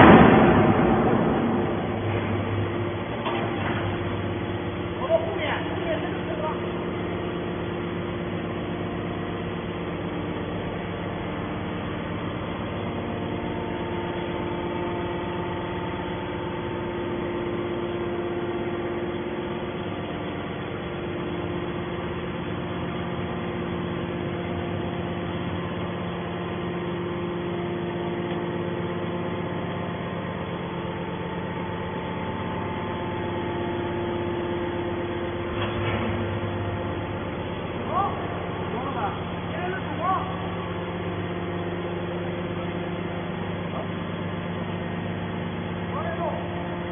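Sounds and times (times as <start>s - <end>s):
hydraulic pump motor humming: 0.0s - 46.9s.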